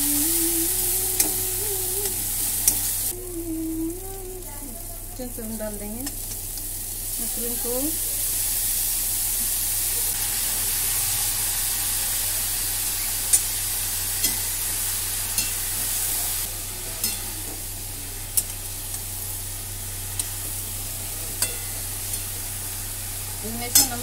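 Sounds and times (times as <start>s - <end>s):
mushrooms sizzling in hot oil: 0.0s - 24.0s.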